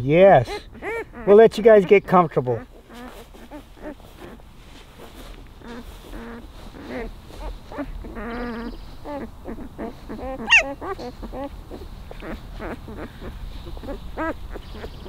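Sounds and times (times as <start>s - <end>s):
puppies whimpering and squeaking: 0.2s - 15.0s
puppy squealing: 0.3s - 4.4s, 5.0s - 15.0s.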